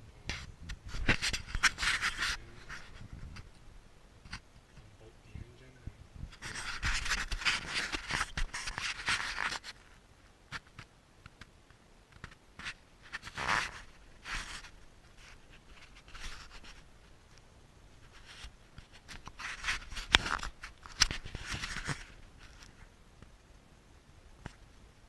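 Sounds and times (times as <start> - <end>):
scrapes and rustles: 0.3 - 3.6, 4.2 - 11.5, 12.1 - 23.0.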